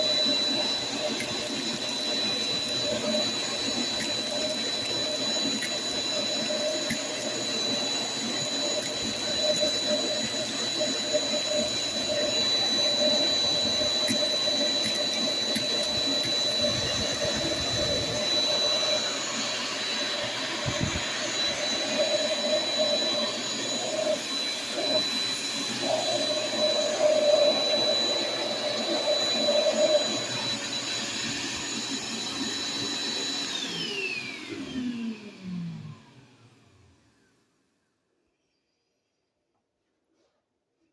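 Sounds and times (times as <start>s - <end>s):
shop vac whining: 0.0s - 37.5s.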